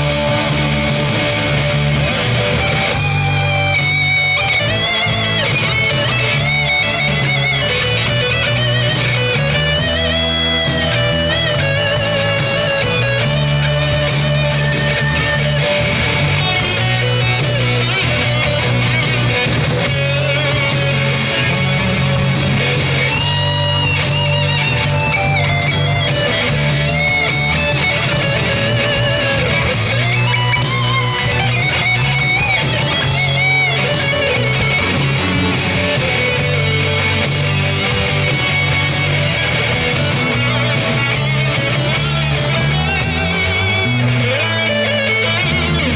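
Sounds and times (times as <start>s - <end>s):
live band music: 0.0s - 45.9s.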